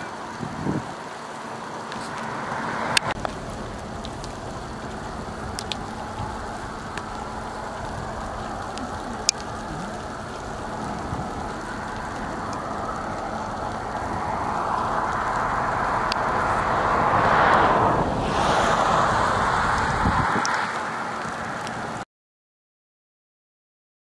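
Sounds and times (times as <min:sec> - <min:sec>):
wind gusting: 0:00.0 - 0:22.0.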